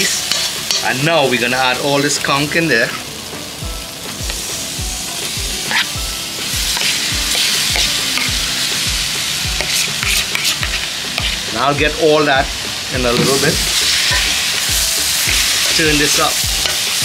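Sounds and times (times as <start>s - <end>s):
background music with low beat: 0.0s - 17.0s
food sizzling in a pan: 0.0s - 17.0s.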